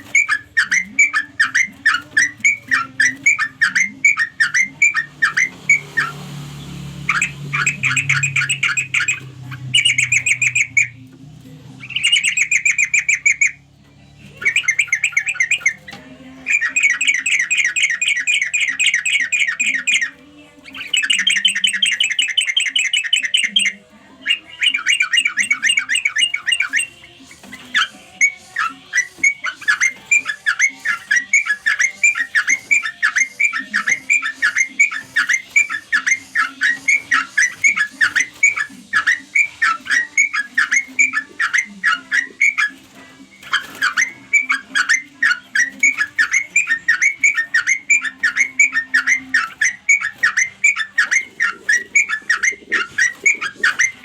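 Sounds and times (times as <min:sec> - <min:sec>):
bulbul chattering trills and chirps: 0:00.0 - 0:54.0.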